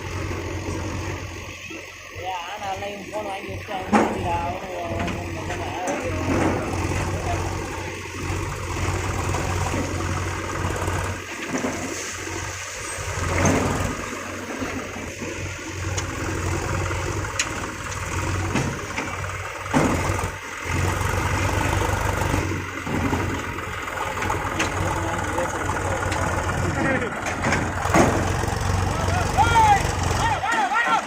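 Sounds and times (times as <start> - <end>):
diesel machinery engine drone: 0.0 - 31.0.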